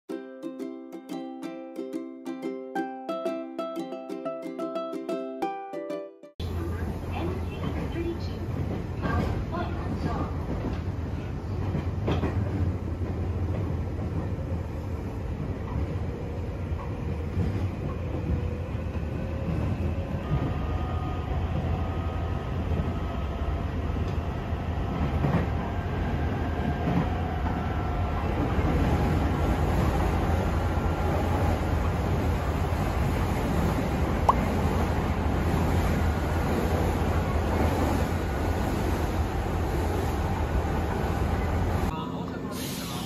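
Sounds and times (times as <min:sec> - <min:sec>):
train wheels rumbling on track: 0:06.4 - 0:43.0.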